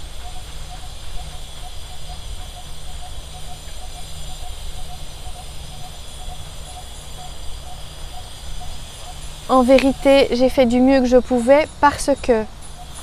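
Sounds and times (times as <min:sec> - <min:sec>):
outdoor hiss with low rumble: 0:00.0 - 0:13.0.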